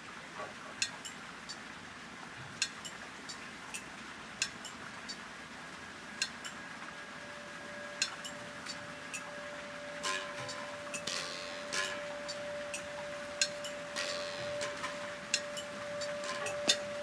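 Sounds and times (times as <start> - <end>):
faint steady tone: 2.6 - 17.0.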